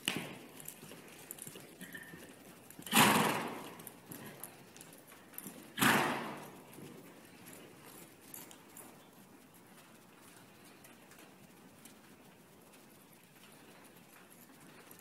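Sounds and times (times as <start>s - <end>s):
hoofbeats on dirt: 0.0s - 15.0s.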